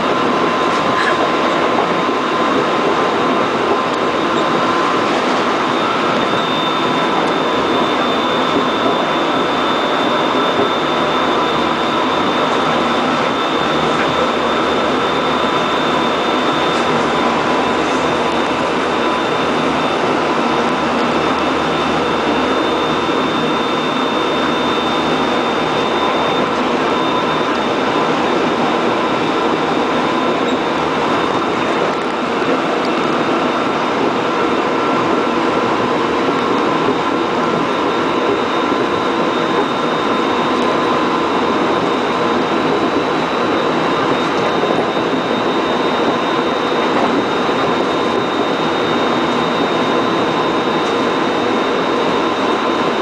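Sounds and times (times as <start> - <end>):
train wheels on rail: 0.0 - 53.0.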